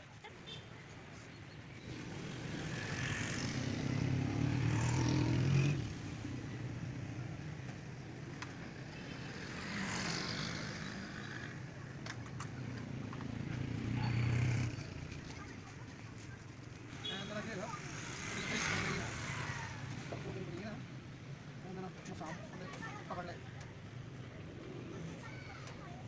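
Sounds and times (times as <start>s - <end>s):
vehicle engines passing: 0.1s - 26.0s.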